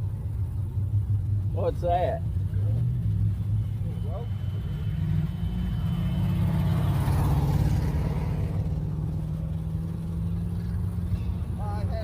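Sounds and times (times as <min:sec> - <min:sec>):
car engine driving past: 0:00.8 - 0:12.0.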